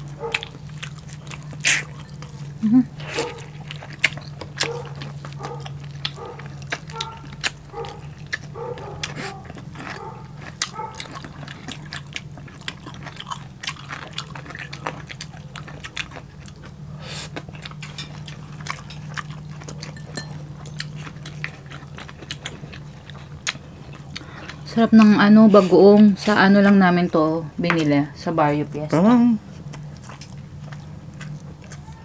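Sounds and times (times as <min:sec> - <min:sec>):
crunchy chewing: 0:00.0 - 0:27.3, 0:28.9 - 0:32.0
low hum: 0:00.0 - 0:32.0.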